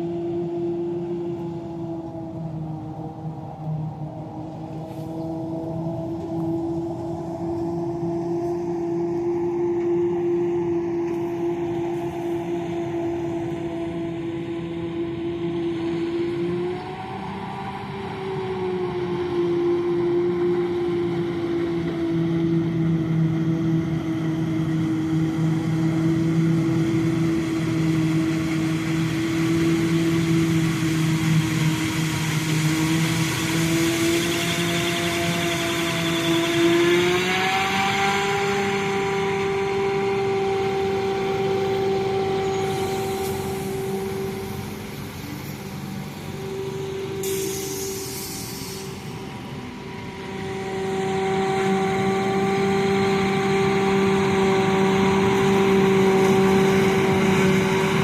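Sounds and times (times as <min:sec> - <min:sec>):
harvest machinery droning: 0:00.0 - 0:58.0.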